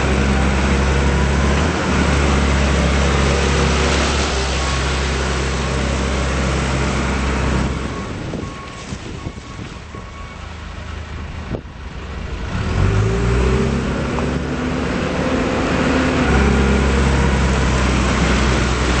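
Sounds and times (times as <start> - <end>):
backhoe diesel engine running: 0.0 - 19.0.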